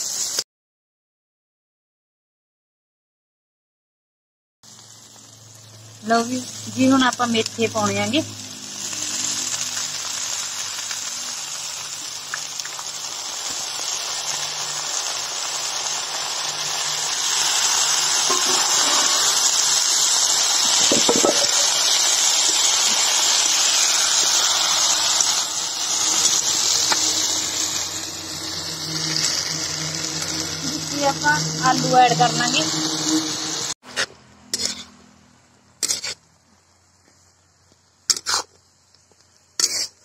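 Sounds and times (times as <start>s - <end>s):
leaves sizzling in hot oil: 0.0s - 0.4s, 4.6s - 40.0s.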